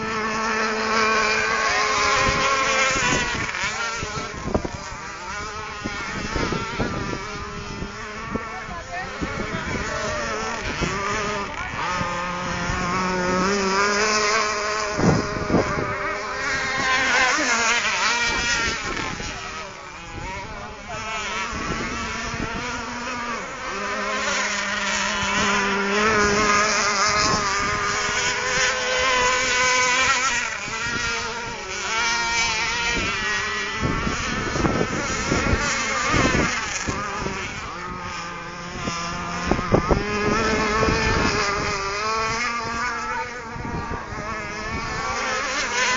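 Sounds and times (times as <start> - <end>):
small boat motors whining: 0.0 - 45.9.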